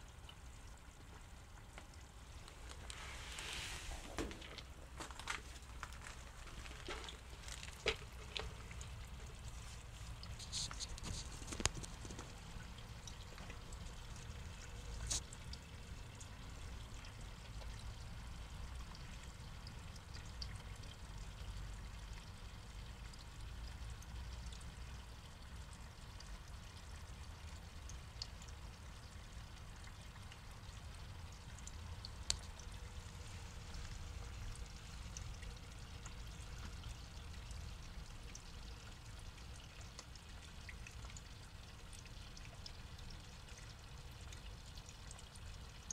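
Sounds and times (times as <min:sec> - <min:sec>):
water trickling into pond: 0:00.0 - 0:45.9.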